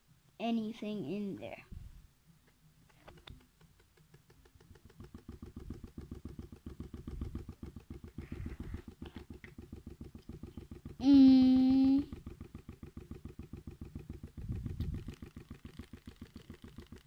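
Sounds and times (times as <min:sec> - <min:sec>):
small fan ticking rattle: 0:02.4 - 0:17.0.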